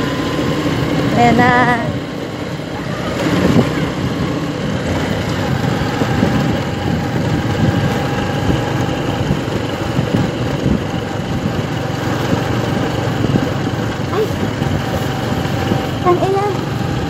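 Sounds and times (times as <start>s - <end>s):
road noise: 0.0s - 17.0s
scooter engine running: 0.0s - 17.0s
wind noise: 3.0s - 17.0s.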